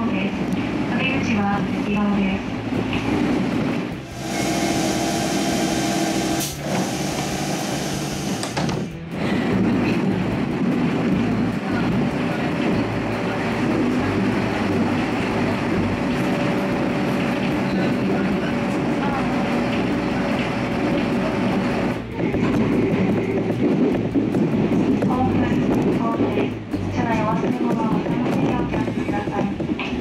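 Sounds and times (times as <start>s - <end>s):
train carriage hum and tones: 0.0s - 30.0s
train rumble: 0.0s - 30.0s.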